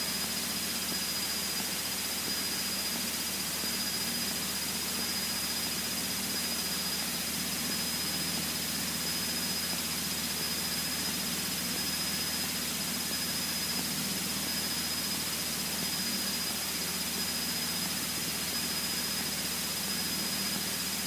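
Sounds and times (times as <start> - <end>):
aircraft engine and propeller drone: 0.0 - 21.0
thin high whine: 0.0 - 21.0.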